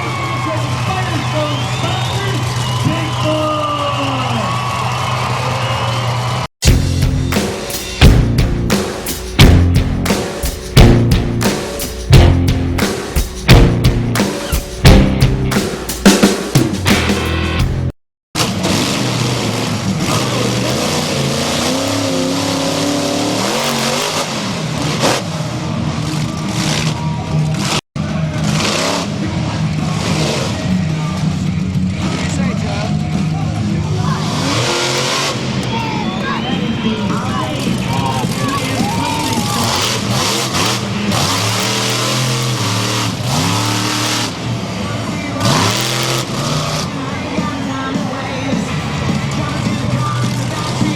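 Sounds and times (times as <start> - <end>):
truck engine revving: 0.3 - 50.9.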